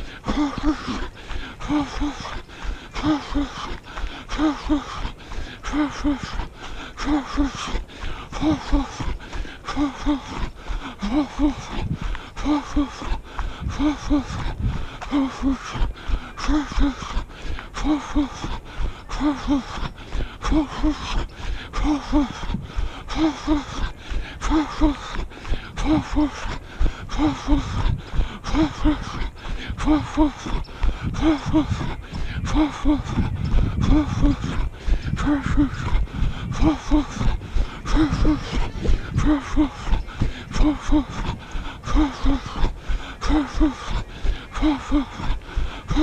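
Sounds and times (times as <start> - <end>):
heavy rhythmic breathing: 0.0 - 46.0.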